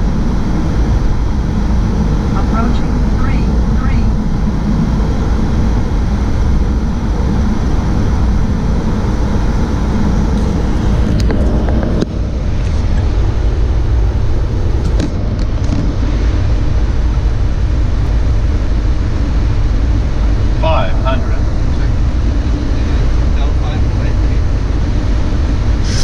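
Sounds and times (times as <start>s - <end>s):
jet airflow and engine rumble: 0.0s - 26.0s.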